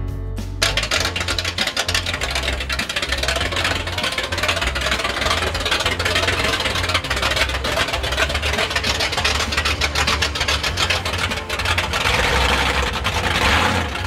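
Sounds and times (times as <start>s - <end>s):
truck engine idling and creeping: 0.4s - 14.0s.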